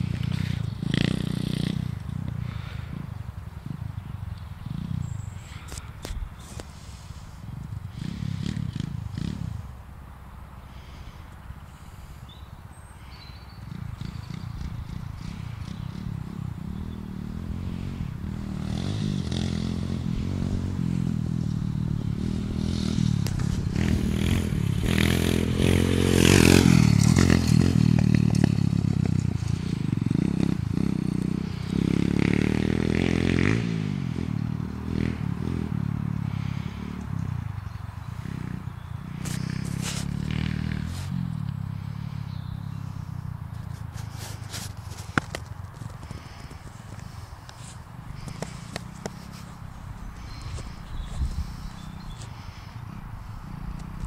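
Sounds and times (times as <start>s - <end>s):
pit bike engine revving: 0.0s - 5.7s, 7.5s - 9.7s, 13.5s - 54.0s.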